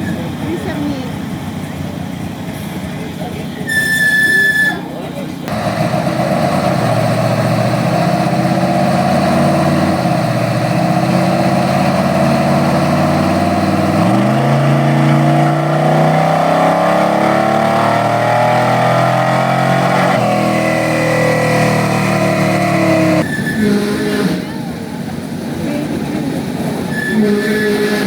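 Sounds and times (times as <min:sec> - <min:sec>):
truck engine running under load: 0:00.0 - 0:28.0.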